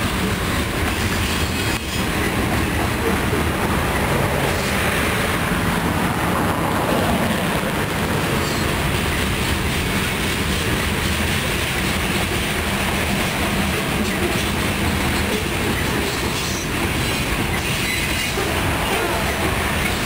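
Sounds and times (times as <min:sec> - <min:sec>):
steel train wheels on rail: 0:00.0 - 0:20.0.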